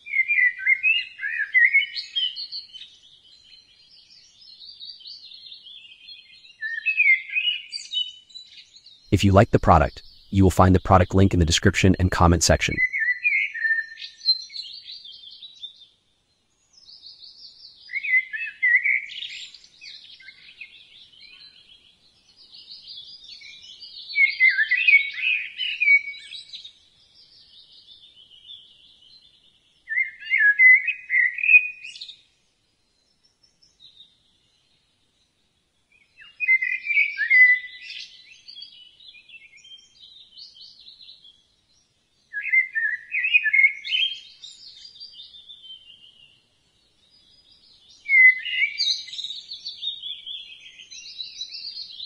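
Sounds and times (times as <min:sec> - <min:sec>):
songbirds chirping and warbling: 0:00.1 - 0:09.0, 0:13.0 - 0:52.0.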